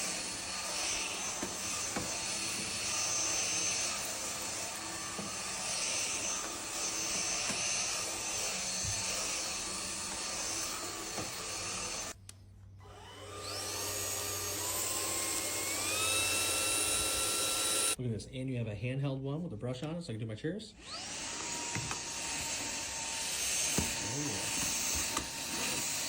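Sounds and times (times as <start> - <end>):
vacuum cleaner running: 0.0 - 12.2, 12.8 - 18.0, 20.8 - 26.0.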